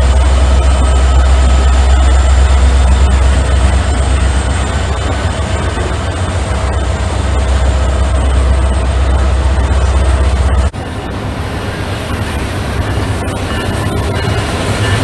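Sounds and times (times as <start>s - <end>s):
rail noise: 0.0s - 15.0s
train passing with heavy rumble: 0.0s - 15.0s.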